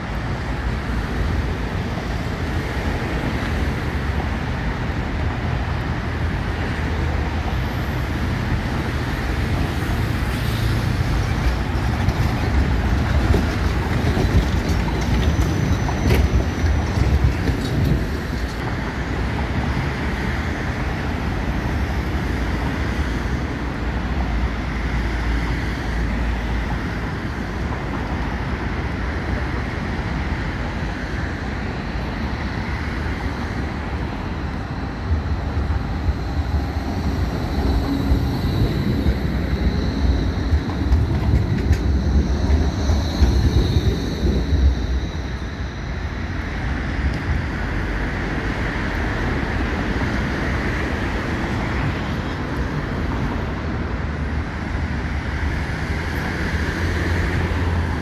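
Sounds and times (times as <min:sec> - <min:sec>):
electric tram rumbling on rails: 0:00.0 - 0:58.0
low wind rumble: 0:00.0 - 0:58.0
road traffic: 0:00.0 - 0:58.0
tram click: 0:00.0 - 0:58.0.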